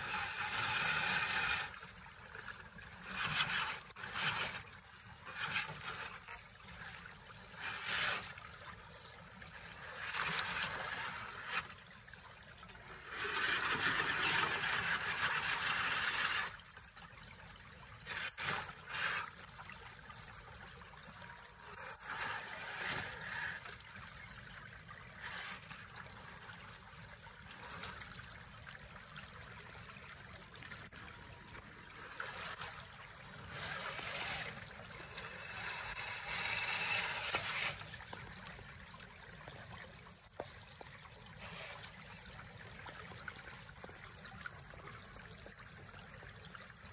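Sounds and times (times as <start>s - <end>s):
toy truck tires splashing: 0.0s - 45.2s
creek water running over rocks: 0.0s - 46.9s.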